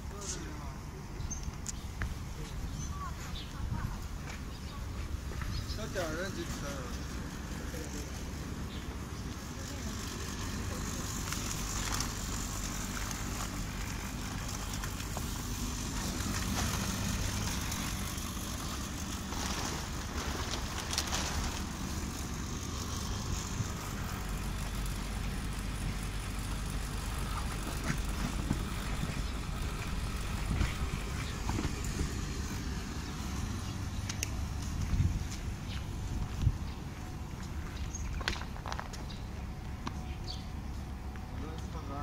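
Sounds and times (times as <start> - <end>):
low mechanical hum and rumble: 0.0 - 42.0
rustles: 1.3 - 40.1.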